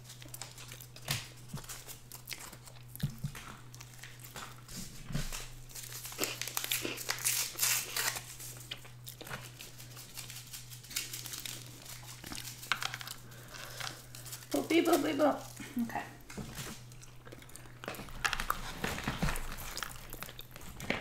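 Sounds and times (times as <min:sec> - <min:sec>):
paper packet crinkling and tearing: 0:00.0 - 0:02.8, 0:03.5 - 0:15.6, 0:16.4 - 0:21.0
steady low hum: 0:00.0 - 0:21.0.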